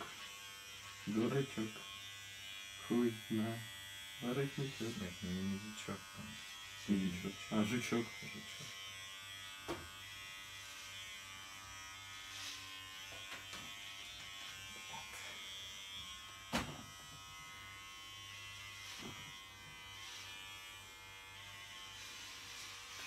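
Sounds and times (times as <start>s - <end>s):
electric hair clippers running: 0.0s - 23.0s.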